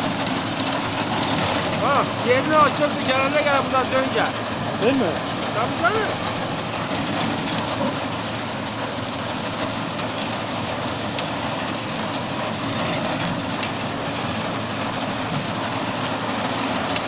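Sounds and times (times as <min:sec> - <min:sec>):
reaper cutting dry reeds: 0:00.0 - 0:17.0
tractor engine running: 0:00.0 - 0:17.0.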